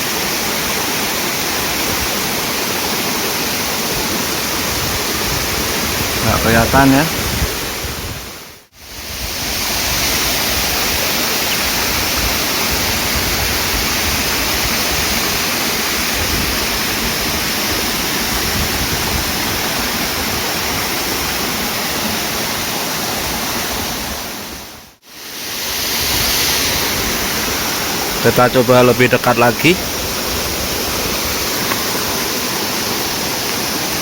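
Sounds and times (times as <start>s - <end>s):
waterfall rushing: 0.0s - 7.8s, 8.8s - 34.0s.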